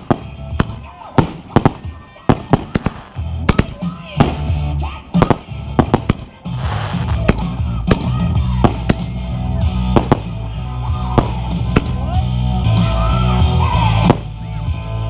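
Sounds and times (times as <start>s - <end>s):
fireworks banging: 0.0s - 12.1s, 14.0s - 14.4s
loud rock music: 0.0s - 15.0s.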